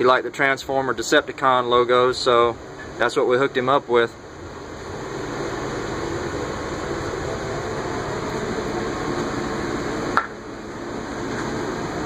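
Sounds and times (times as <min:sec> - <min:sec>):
running vehicle hum and hiss: 0:00.0 - 0:12.0.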